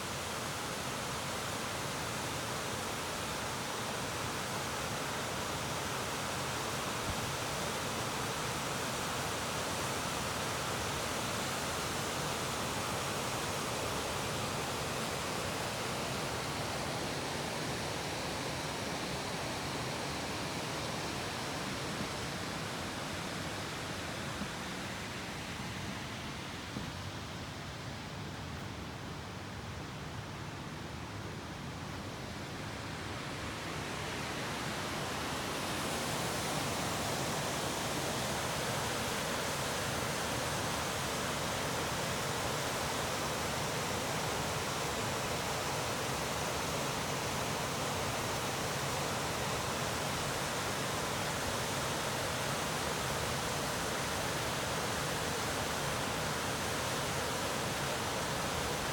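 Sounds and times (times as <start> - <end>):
small waterfall rushing: 0.0 - 58.9.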